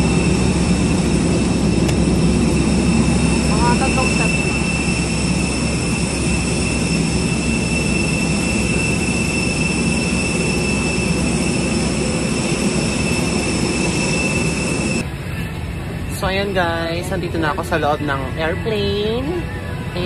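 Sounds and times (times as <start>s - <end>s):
jet turbine whine: 0.0s - 20.0s.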